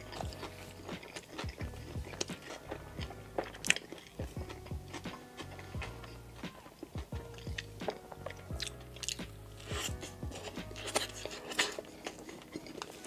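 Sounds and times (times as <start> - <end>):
chewing toasted sandwich: 0.0 - 13.0.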